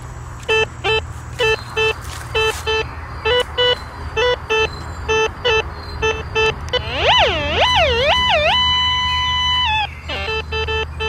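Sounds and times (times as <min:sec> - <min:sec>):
metal detector beeps: 0:00.4 - 0:11.0.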